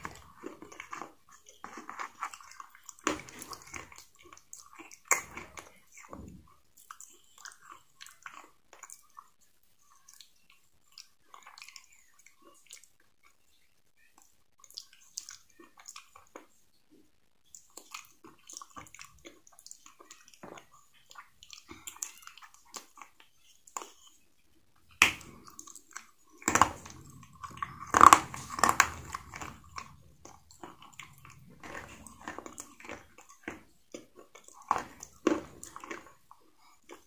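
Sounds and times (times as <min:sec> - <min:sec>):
crunchy chewing: 0:00.0 - 0:37.0.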